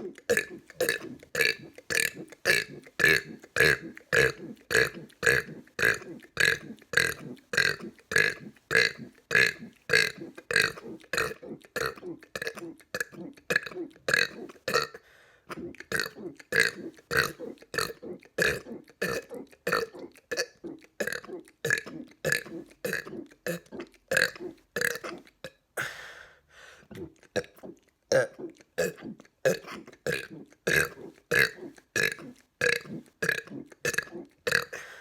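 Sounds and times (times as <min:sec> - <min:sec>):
man burping: 0:00.0 - 0:26.0, 0:26.9 - 0:35.0.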